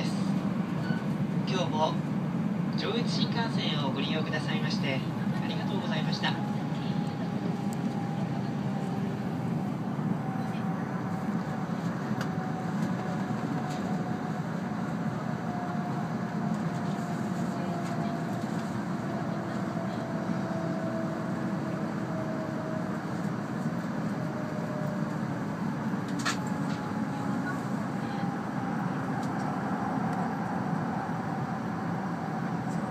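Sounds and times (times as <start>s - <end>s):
train cabin rumble: 0.0s - 32.9s.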